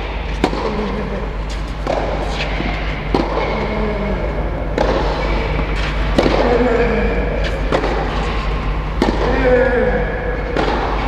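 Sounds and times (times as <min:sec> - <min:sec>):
steady low hum: 0:00.0 - 0:11.0
tennis balls struck by racquets: 0:00.0 - 0:11.0.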